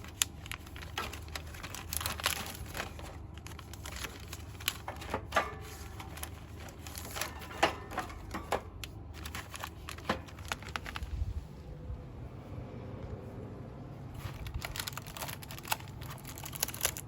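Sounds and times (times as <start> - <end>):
packaging crinkling and clicking: 0.0 - 11.2, 14.2 - 17.0
steady low hum: 0.0 - 17.0.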